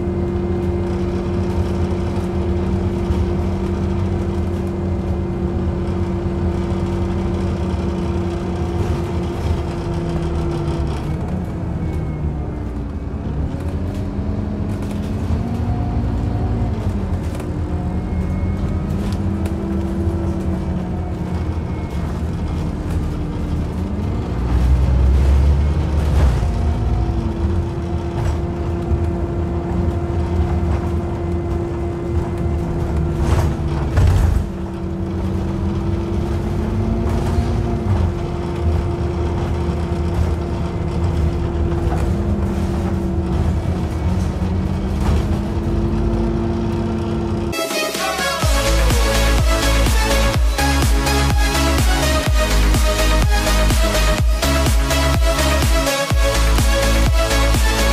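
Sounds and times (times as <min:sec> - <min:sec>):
bus engine humming: 0:00.0 - 0:57.9.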